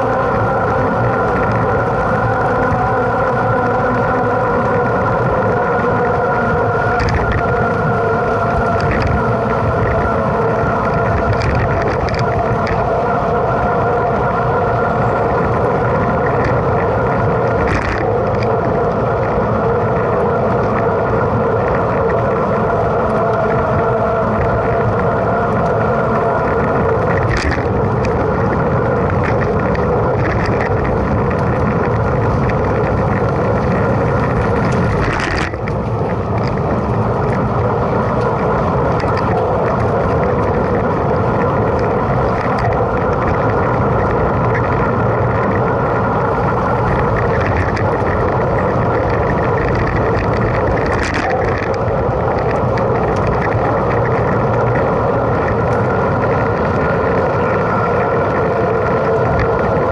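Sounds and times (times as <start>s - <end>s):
bike rattles and clicks: 0.0s - 59.9s
wind and tyre noise: 0.0s - 59.9s.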